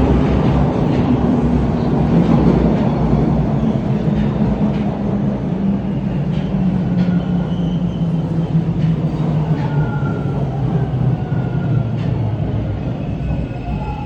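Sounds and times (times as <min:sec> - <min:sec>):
subway train droning: 0:00.0 - 0:14.0.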